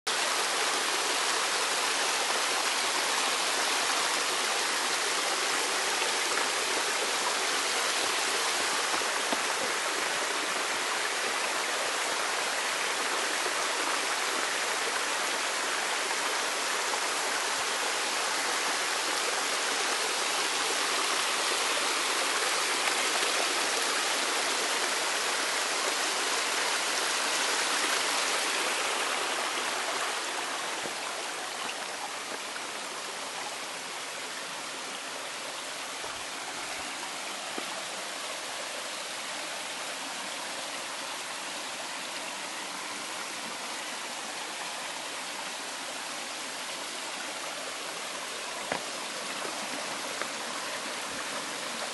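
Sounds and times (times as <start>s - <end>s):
stream rushing over rocks: 0.1s - 51.9s.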